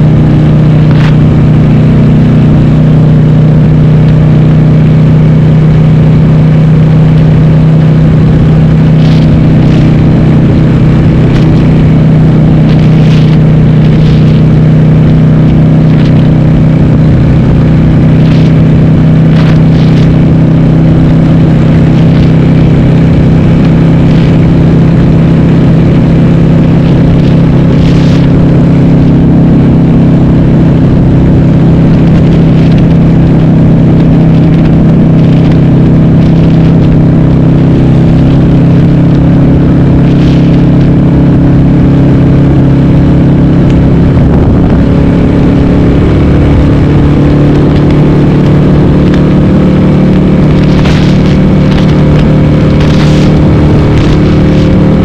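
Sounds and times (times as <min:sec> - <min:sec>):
loud motorcycle engine cruising: 0:00.0 - 0:55.0.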